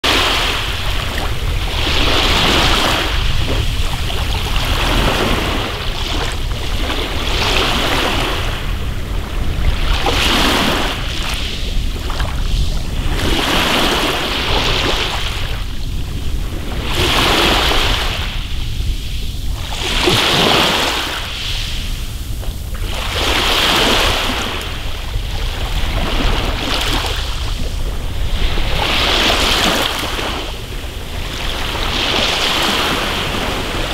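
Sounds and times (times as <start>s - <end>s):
waves washing on pebble beach: 0.0s - 33.9s
steady low rumble: 0.5s - 28.9s.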